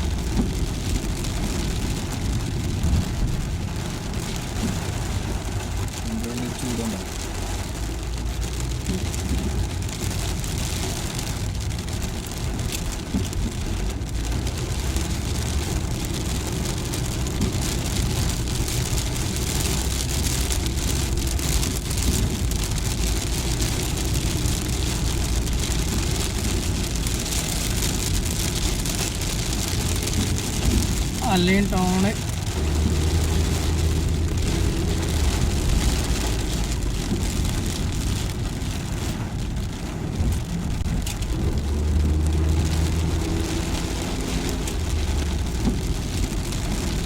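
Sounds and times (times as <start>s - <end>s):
car engine and road rumble: 0.0s - 47.0s
tyres hissing on wet road: 0.0s - 47.0s.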